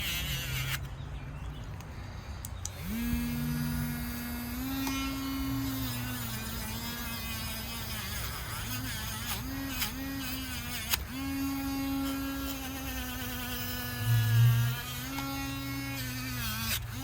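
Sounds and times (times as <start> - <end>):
electric power tool motor whining: 0.0 - 0.9, 2.6 - 17.0.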